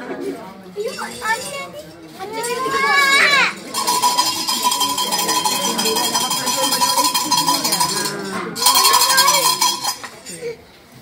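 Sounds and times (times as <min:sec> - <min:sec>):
hand bell ringing rapidly: 0:00.8 - 0:10.5.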